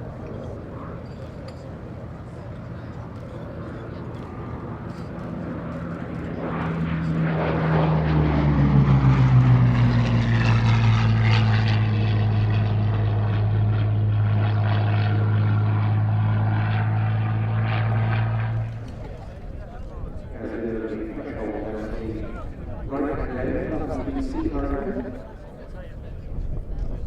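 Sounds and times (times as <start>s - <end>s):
propeller aircraft engine passing: 0.0s - 27.0s.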